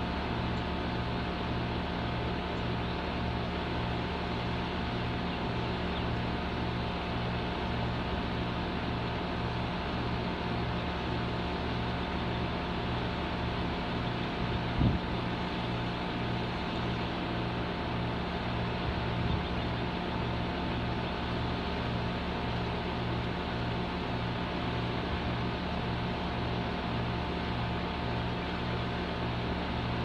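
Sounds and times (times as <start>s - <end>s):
compressor humming: 0.0s - 30.0s.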